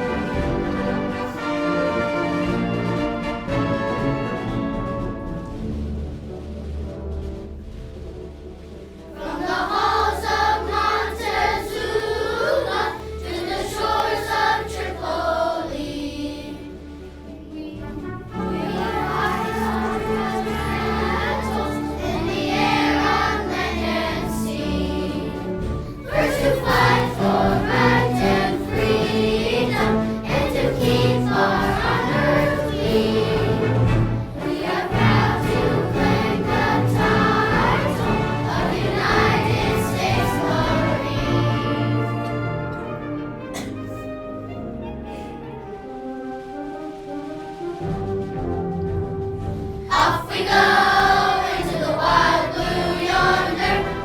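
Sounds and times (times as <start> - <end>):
children's choir singing: 0.0 - 5.1, 8.3 - 43.8, 49.5 - 54.0
instrumental accompaniment: 0.0 - 54.0.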